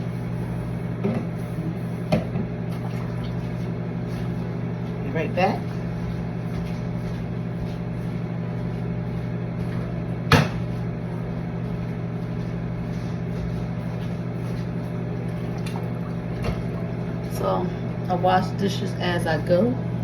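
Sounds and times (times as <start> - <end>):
kitchen appliance humming: 0.0 - 20.0.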